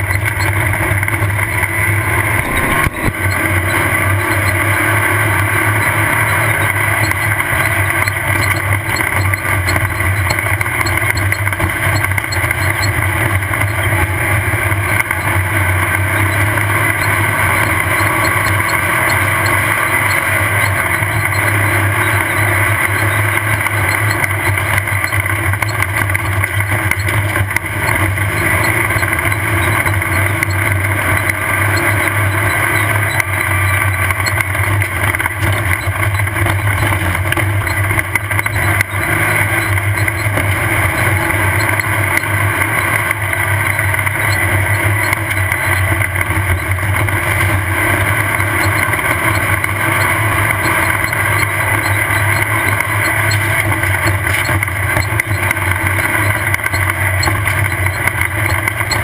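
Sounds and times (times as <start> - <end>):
constant rushing noise: 0.0 - 59.0
off-road vehicle engine: 0.0 - 59.0.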